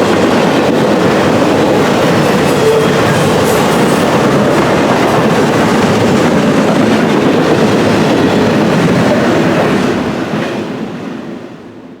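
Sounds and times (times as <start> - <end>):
train wheels rolling on rails: 0.0 - 11.9.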